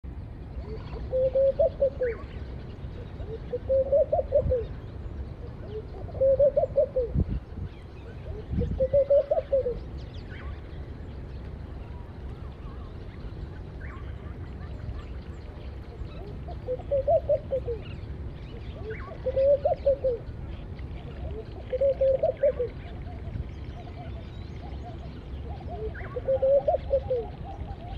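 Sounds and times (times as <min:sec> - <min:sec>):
low background noise: 0:00.0 - 0:27.9
doves cooing: 0:00.5 - 0:10.9, 0:11.6 - 0:27.9.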